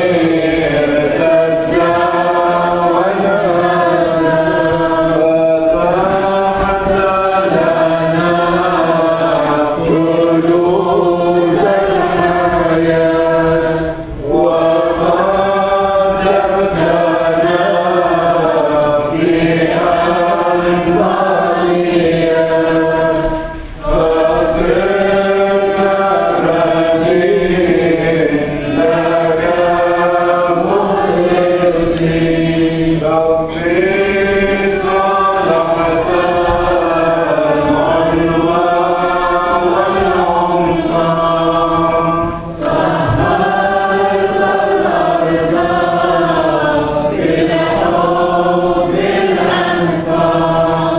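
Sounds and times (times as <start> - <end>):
congregation singing a hymn: 0.0 - 50.9.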